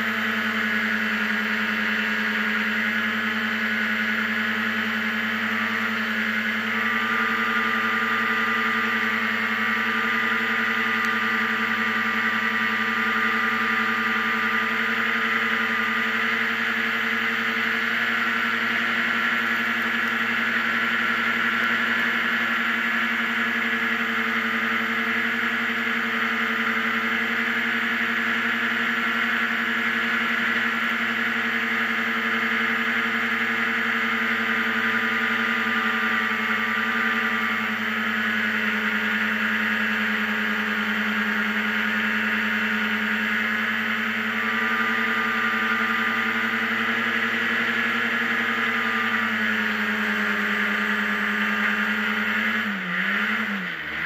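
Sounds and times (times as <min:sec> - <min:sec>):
hovercraft engine and fan drone: 0:00.0 - 0:54.0.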